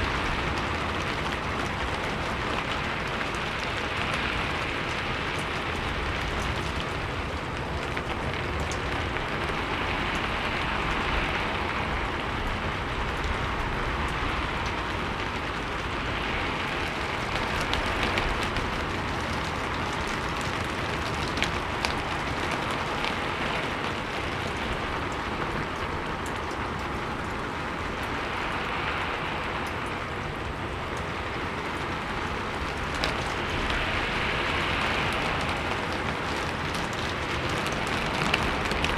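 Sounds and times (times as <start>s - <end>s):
heavy rain on roof: 0.0s - 38.9s
wind: 0.0s - 38.9s.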